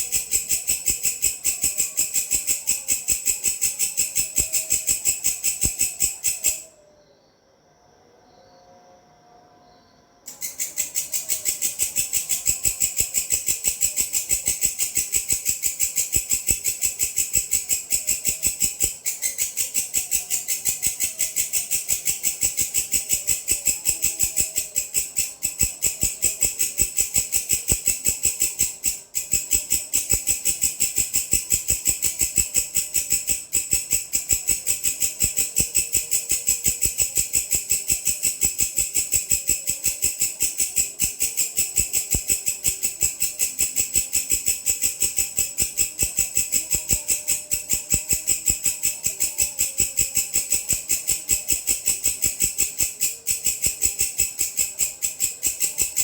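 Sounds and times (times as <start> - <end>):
grasshopper stridulating: 0.0 - 6.8, 10.3 - 56.0.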